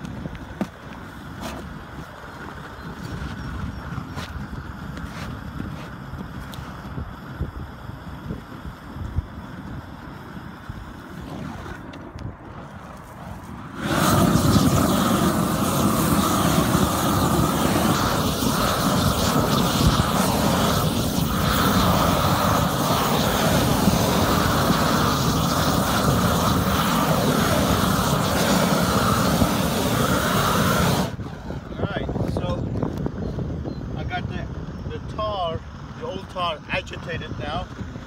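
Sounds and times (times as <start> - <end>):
gas torch roaring: 0.0 - 38.0.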